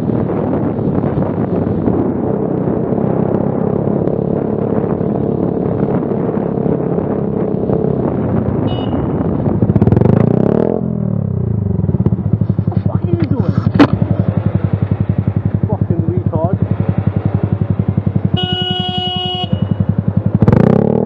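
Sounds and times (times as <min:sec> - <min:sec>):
motorcycle engine running: 0:00.0 - 0:21.0
wind noise: 0:00.0 - 0:21.0.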